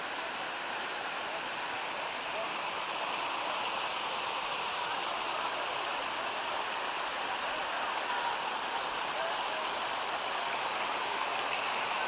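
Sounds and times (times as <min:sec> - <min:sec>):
creek rushing over waterfalls: 0:00.0 - 0:12.0.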